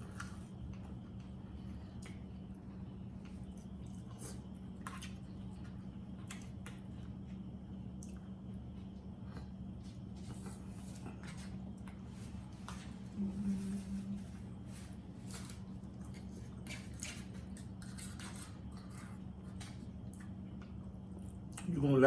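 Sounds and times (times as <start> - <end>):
people chewing: 0.0 - 7.4, 8.0 - 21.8
low hum: 0.0 - 22.0.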